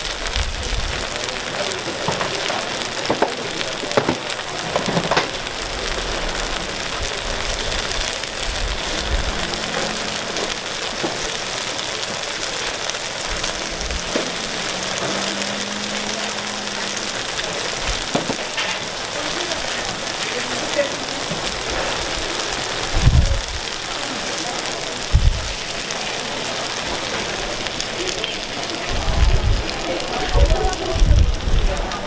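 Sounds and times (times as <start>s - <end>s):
batter sizzling on a griddle: 0.0s - 32.0s.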